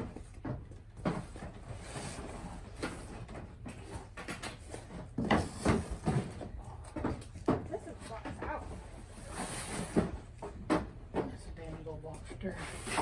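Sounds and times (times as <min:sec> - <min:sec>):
objects knocking and clattering: 0:00.0 - 0:09.1, 0:09.7 - 0:12.0.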